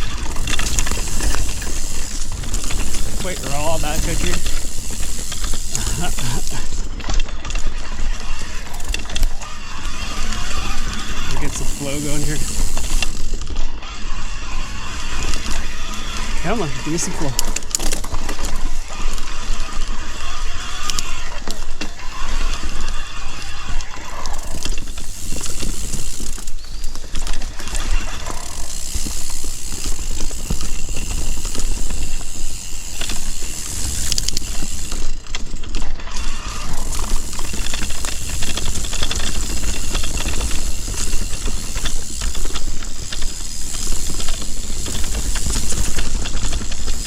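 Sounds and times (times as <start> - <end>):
bike rattling over bumps: 0.0 - 47.0
bike tyres on dirt trail: 0.0 - 47.0.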